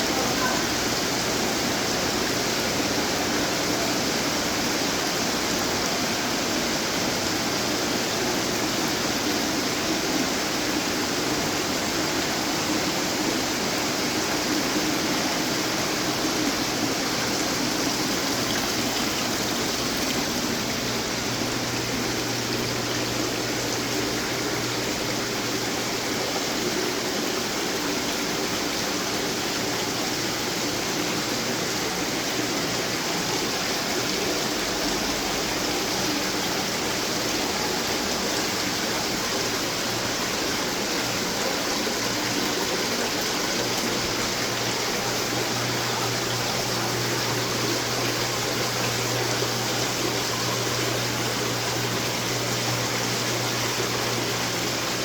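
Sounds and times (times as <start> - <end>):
garden fountain water splashing: 0.0 - 55.0.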